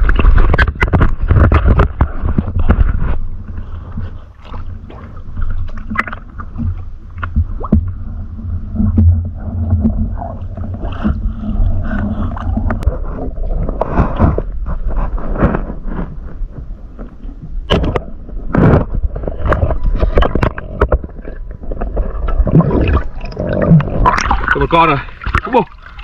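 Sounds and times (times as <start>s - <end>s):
low underwater rumble: 0.0s - 26.0s.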